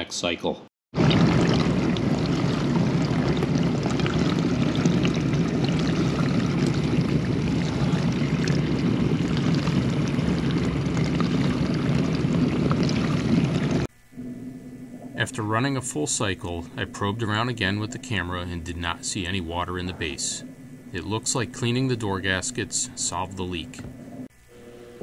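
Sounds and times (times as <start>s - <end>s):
low hum: 1.0s - 25.0s.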